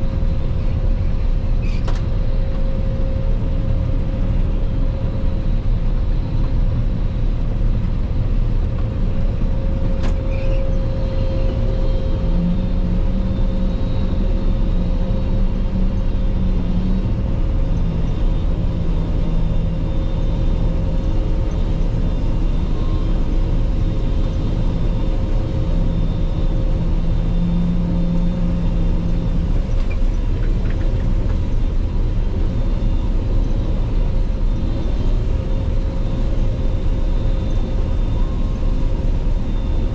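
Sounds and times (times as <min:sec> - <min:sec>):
combine harvester drone: 0:00.0 - 0:39.9
constant whine: 0:00.0 - 0:39.9
low hum: 0:00.0 - 0:39.9.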